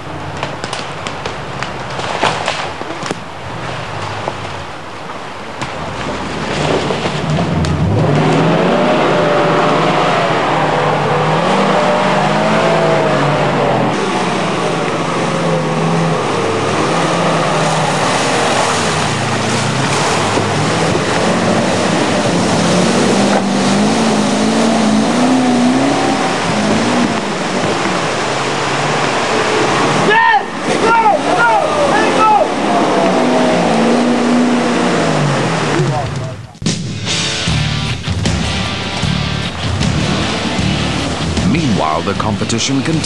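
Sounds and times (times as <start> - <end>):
steady rushing noise: 0.0 - 43.0
off-road engine revving: 5.8 - 43.0.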